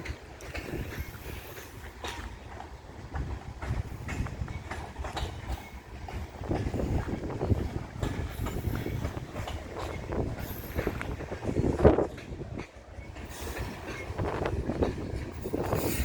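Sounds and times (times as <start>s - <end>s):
freight train cars rumbling: 0.0s - 16.0s
wheels clacking over rail joints: 0.0s - 16.0s.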